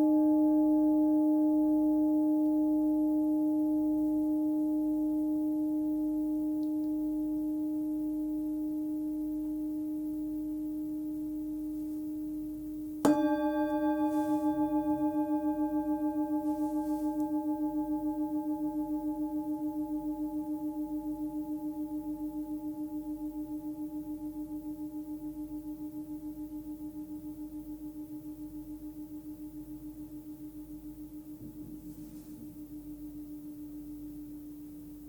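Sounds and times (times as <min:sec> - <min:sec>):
singing bowl ringing: 0:00.0 - 0:34.1.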